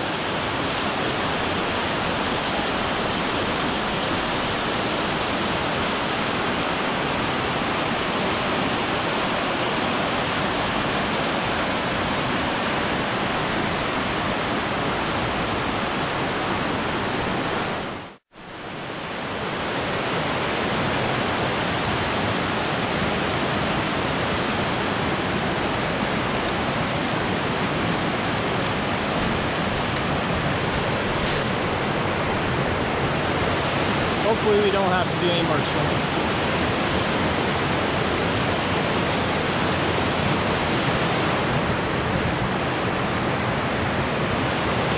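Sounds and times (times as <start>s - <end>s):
river water over rapids: 0.0s - 44.9s
waterfall rushing: 0.0s - 44.9s.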